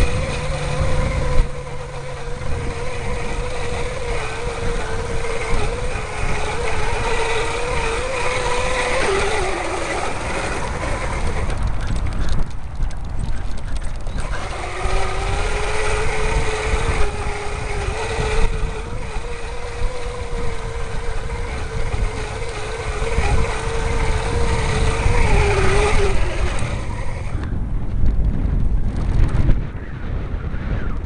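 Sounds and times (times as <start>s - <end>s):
electric bike motor whining: 0.0s - 31.0s
wind rumbling on microphone: 0.0s - 31.0s.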